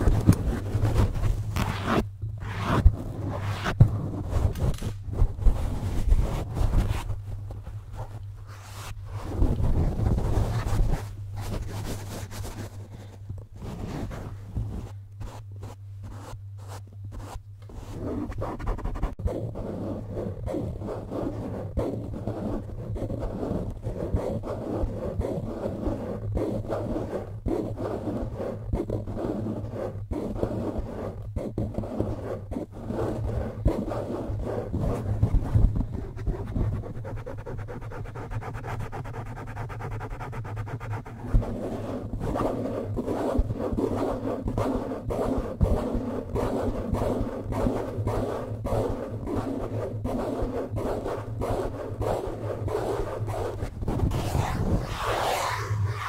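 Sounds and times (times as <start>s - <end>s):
fingers scratching mic windscreen: 0.0s - 56.0s
steady low hum: 0.0s - 56.0s.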